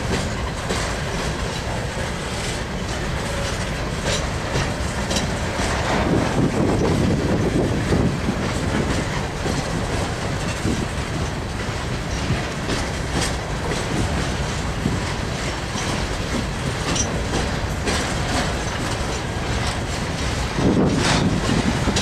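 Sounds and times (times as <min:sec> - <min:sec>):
steel wheels rumbling on rail: 0:00.0 - 0:22.0
wheels clicking over rail joints: 0:00.0 - 0:22.0.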